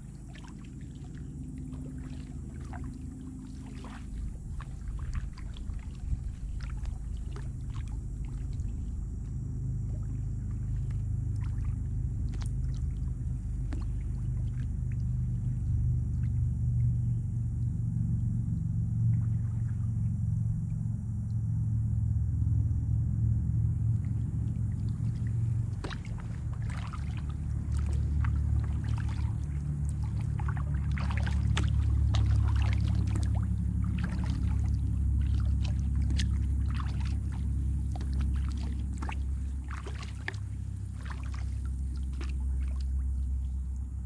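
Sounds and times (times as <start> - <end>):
paddle splashing and dripping: 0.0 - 21.4, 23.6 - 44.0
steady low rumble: 0.0 - 44.0.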